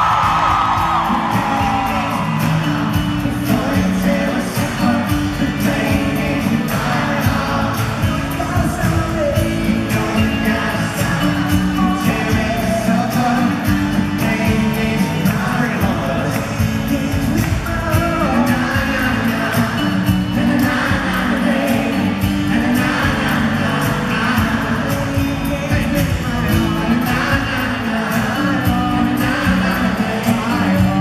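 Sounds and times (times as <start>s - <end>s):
acoustic guitars strummed: 0.0s - 31.0s
keyboard: 0.0s - 31.0s
men singing: 0.0s - 31.0s.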